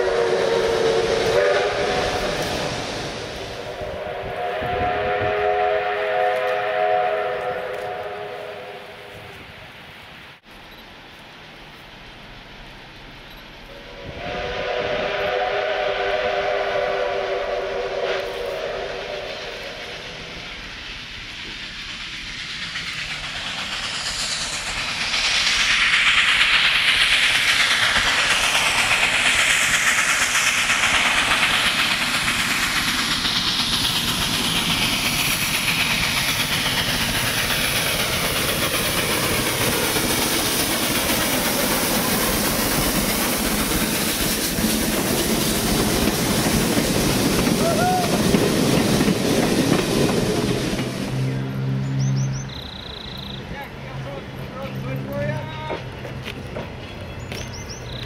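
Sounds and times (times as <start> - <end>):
steam locomotive hissing: 0.0 - 58.0
train wheels rushing on rails: 0.0 - 58.0.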